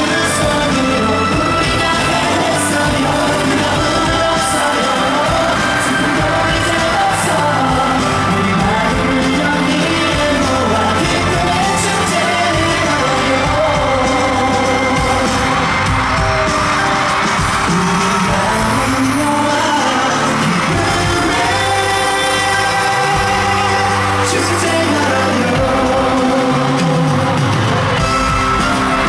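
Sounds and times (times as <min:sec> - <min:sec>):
pop song over sound system: 0:00.0 - 0:29.0.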